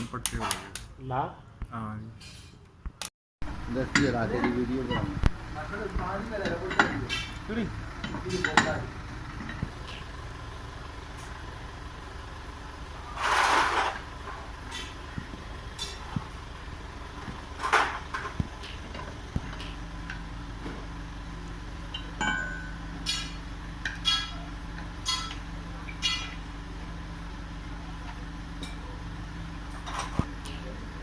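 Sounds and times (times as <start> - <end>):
vehicle engine humming: 2.6 - 31.0.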